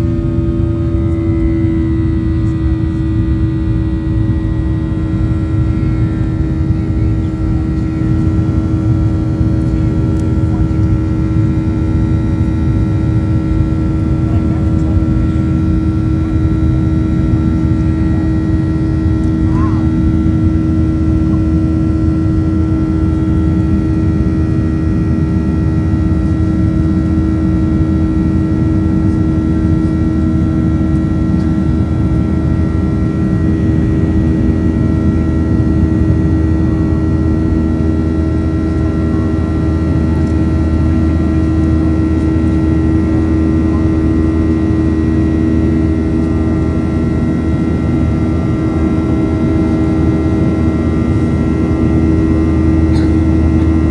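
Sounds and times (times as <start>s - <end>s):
jet engine drone in cabin: 0.0s - 53.9s.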